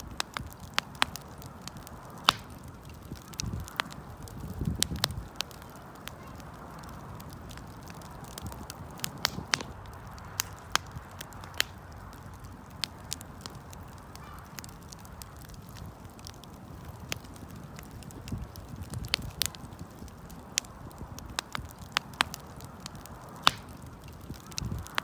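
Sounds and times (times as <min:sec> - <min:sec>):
low hiss of burning: 0:00.0 - 0:25.0
wood fire pops and snaps: 0:00.0 - 0:25.0.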